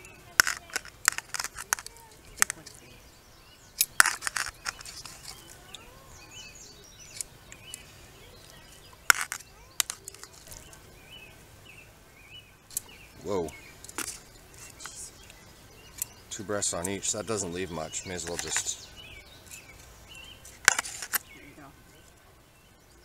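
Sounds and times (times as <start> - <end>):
birds chirping faintly: 0.0 - 23.0.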